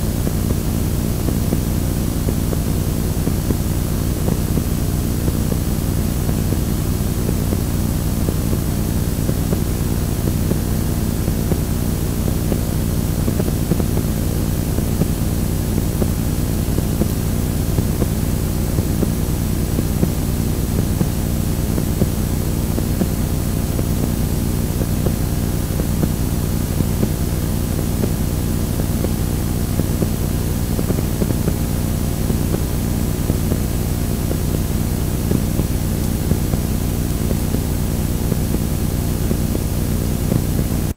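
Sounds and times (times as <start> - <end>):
faint hum: 0.0 - 40.9
tape static rushing noise: 0.0 - 40.9.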